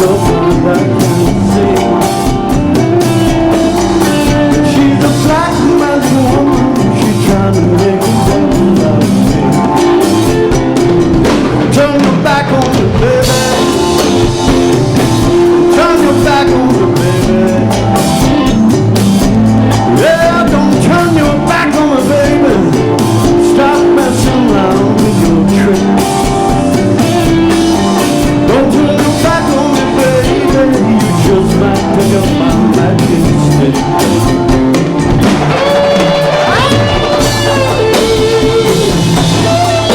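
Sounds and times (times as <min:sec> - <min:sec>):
drum kit: 0:00.0 - 0:39.9
electric guitar: 0:00.0 - 0:39.9
organ chords: 0:00.0 - 0:39.9
person singing: 0:00.0 - 0:39.9.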